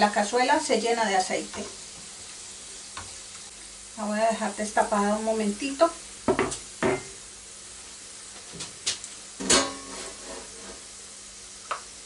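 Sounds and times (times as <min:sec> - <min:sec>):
pork rinds sizzling in fat: 0:00.0 - 0:12.0.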